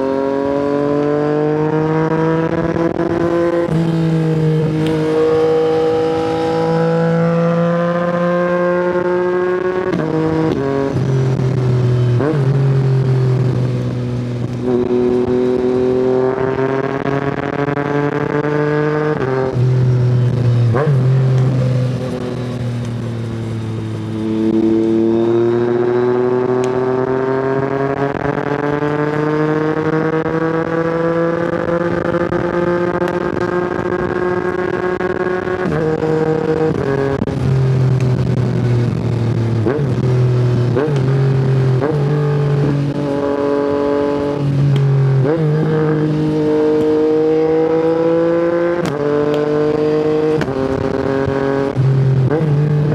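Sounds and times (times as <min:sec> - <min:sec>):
motorcycle engine revving: 0:00.0 - 0:52.9
motorcycle gear changes: 0:00.0 - 0:52.9.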